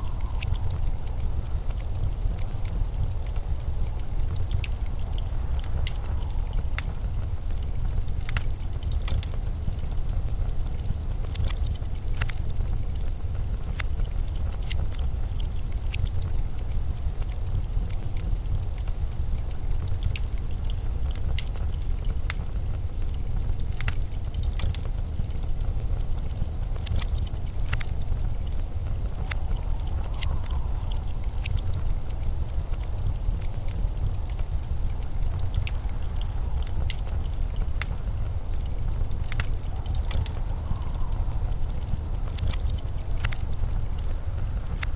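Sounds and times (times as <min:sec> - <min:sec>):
blizzard wind rumbling: 0:00.0 - 0:44.9
sharp crackles and ticks: 0:00.0 - 0:44.9.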